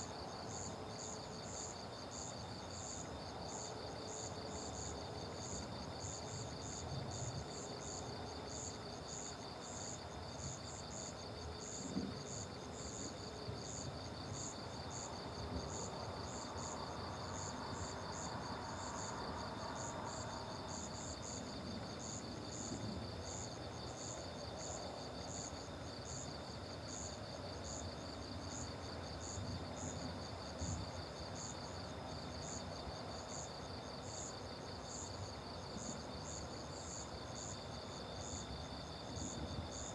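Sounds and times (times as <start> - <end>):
crickets trilling: 0.0 - 39.9
high cricket chirps: 0.0 - 39.9
low background noise: 0.0 - 39.9.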